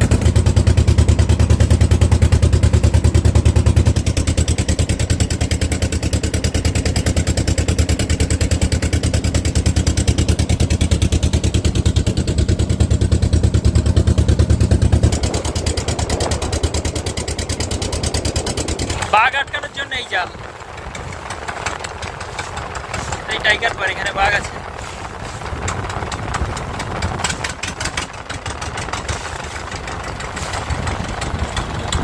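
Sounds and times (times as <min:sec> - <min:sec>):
boat engine throbbing: 0:00.0 - 0:32.0.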